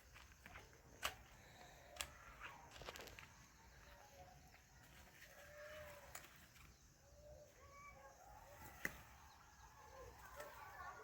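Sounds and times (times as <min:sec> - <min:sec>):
faint animal calls: 0:01.4 - 0:11.0.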